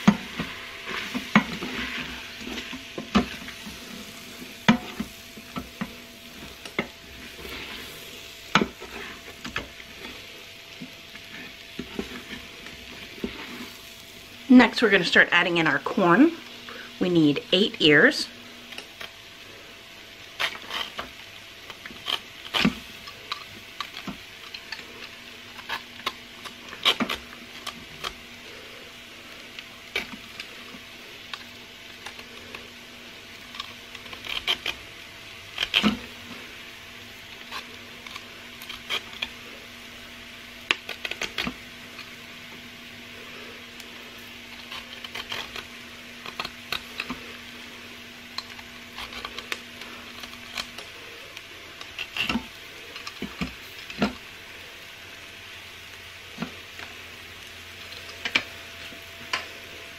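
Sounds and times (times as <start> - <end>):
corn stripper scraping kernels: 0.0 - 14.0, 18.6 - 54.7
faint steady hum: 0.0 - 59.9.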